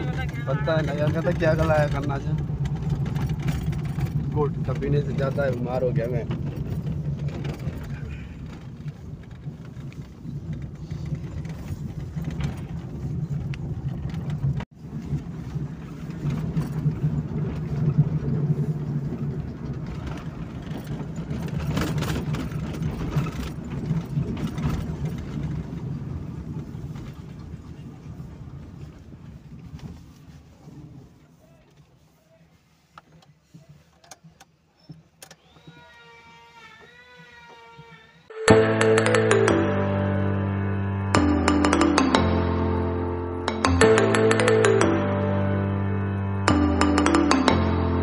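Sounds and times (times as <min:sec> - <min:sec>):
car engine and road noise: 0:00.0 - 0:35.8, 0:38.4 - 0:48.0.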